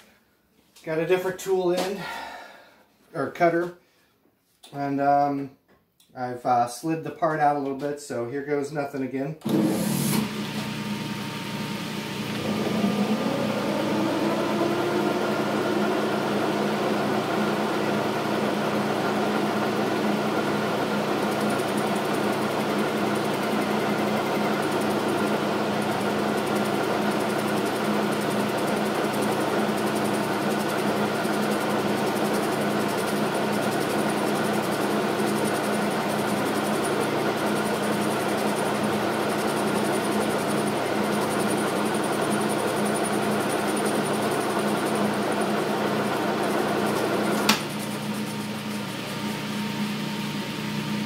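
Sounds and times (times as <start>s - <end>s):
metal lathe motor humming: 9.5s - 51.0s.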